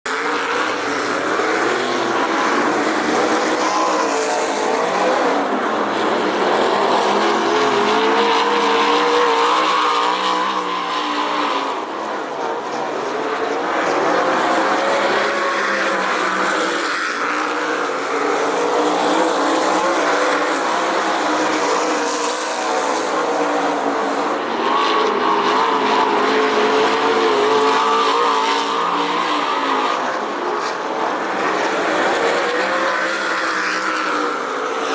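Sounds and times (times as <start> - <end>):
racing car engines: 0.0 - 34.9.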